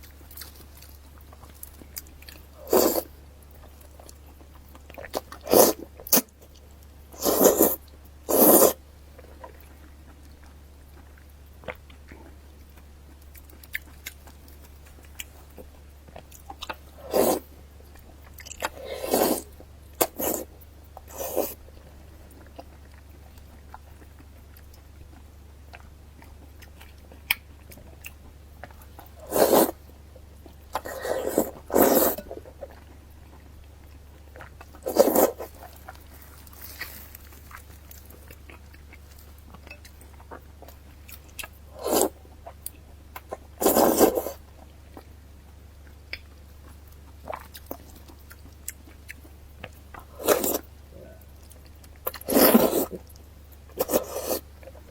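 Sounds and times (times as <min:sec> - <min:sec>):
wet chewing: 0:00.0 - 0:45.1, 0:45.8 - 0:54.9
low steady hum: 0:00.0 - 0:54.9.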